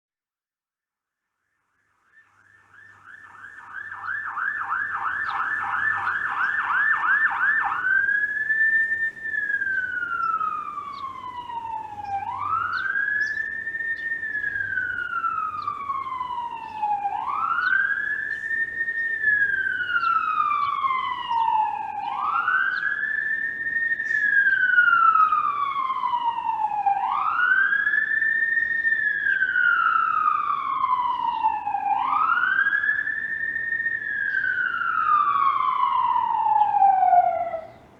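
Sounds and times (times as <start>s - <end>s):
ambulance siren: 2.3s - 37.9s.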